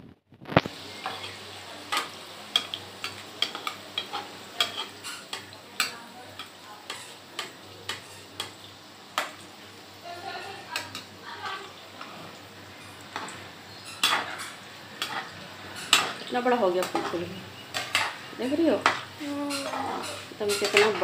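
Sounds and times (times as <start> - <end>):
dough sizzling in hot oil: 0.0 - 21.0
slotted spoon stirring in oil: 0.6 - 9.4, 10.7 - 21.0.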